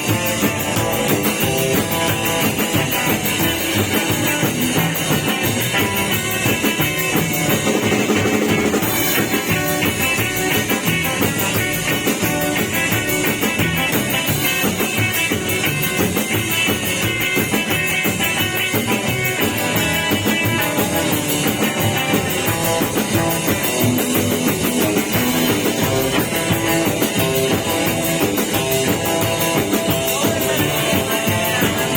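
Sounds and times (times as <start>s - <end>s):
drum kit beat with cymbals: 0.0s - 31.9s
electric guitar: 0.0s - 31.9s.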